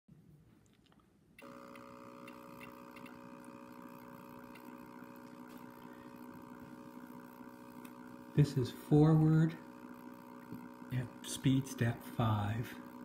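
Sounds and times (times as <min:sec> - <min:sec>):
motor ticking: 0:01.4 - 0:13.0
small electric motor whining: 0:01.4 - 0:13.0.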